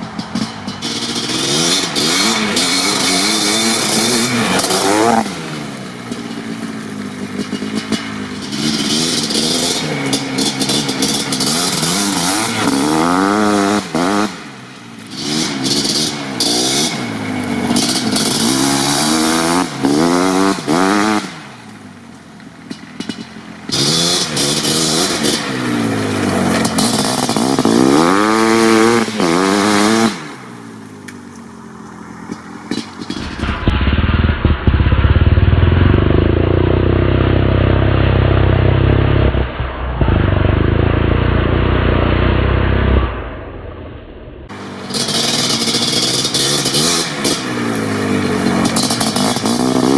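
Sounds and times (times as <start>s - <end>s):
two-stroke engine revving: 0.0s - 43.7s, 44.5s - 49.9s.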